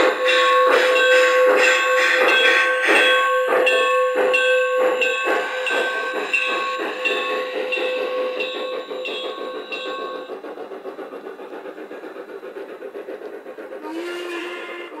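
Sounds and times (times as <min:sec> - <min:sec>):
model train wheels clicking: 0:00.0 - 0:15.0.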